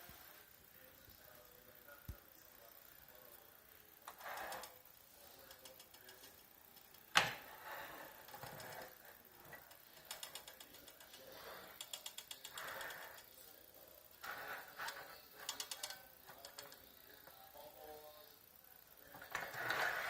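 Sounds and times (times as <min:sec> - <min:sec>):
toy locomotive gears clicking: 0:02.2 - 0:20.0.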